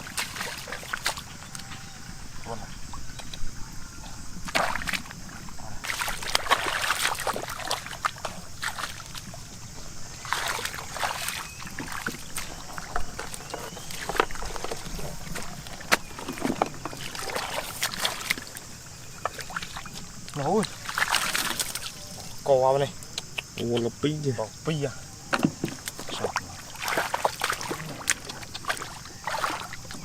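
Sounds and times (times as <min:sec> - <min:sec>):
shallow water splashing: 0:00.0 - 0:02.2, 0:04.4 - 0:22.4, 0:25.5 - 0:30.0.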